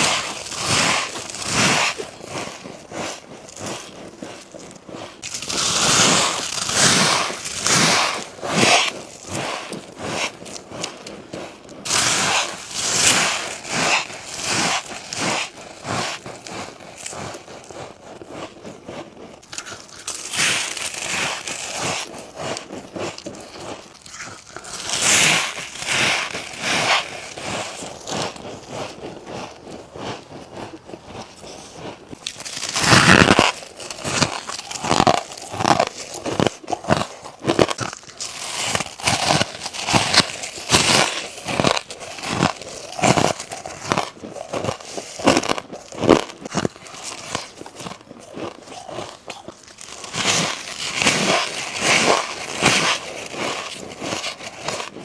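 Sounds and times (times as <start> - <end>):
chewing crunchy frost: 0.0 - 55.0.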